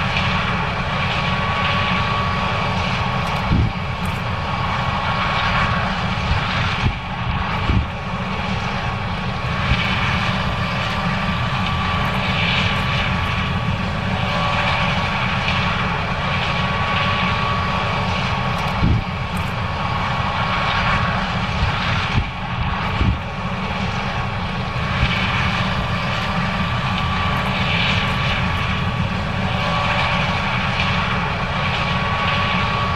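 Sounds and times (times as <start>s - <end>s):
combine harvester running: 0.0s - 32.9s.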